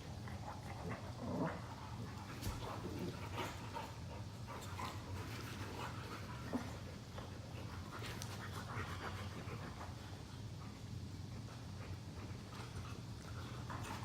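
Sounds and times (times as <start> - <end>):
dogs play-fighting: 0.0 - 14.0
low steady hum: 0.0 - 14.0.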